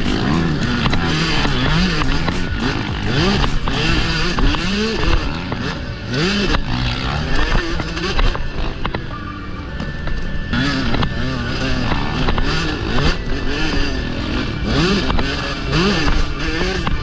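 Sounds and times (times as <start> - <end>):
motocross bike engine revving: 0.0 - 9.2, 10.5 - 17.0.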